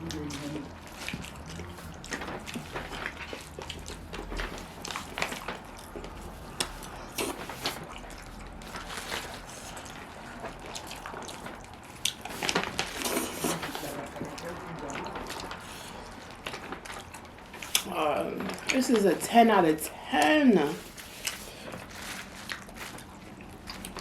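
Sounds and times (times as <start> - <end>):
wet chewing and lip smacks: 0.0 - 13.7, 14.3 - 17.9, 21.0 - 24.0.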